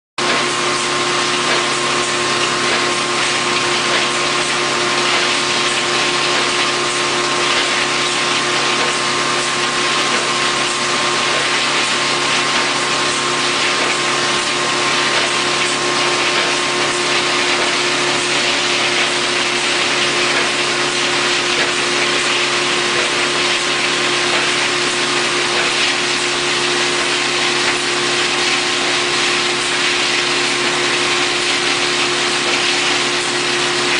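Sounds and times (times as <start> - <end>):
machine hum: 0.2 - 33.9.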